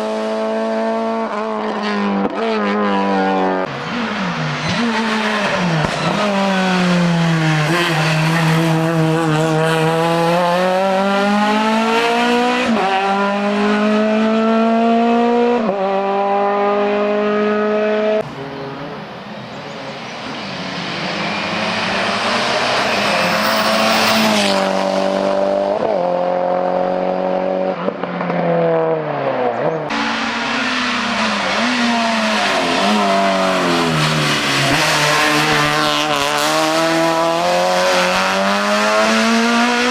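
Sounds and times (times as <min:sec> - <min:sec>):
race car engines accelerating: 0:00.0 - 0:39.9.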